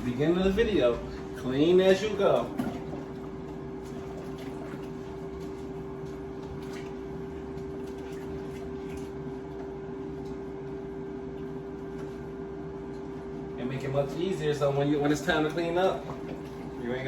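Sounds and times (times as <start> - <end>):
appliance fan humming: 0.0 - 17.0.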